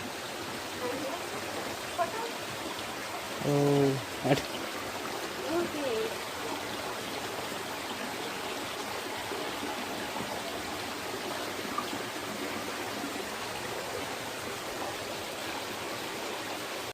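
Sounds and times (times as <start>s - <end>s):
stream water running and splashing: 0.0s - 16.9s.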